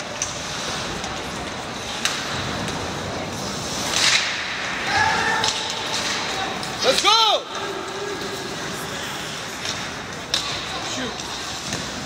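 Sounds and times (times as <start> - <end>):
hissing skate scrape: 0.0 - 12.0
skates scraping ice: 0.0 - 12.0.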